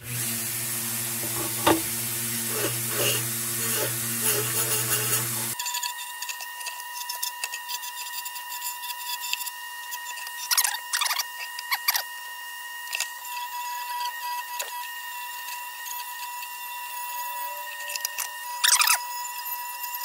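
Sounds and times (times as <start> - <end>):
electric wire wheel running: 0.0 - 20.0.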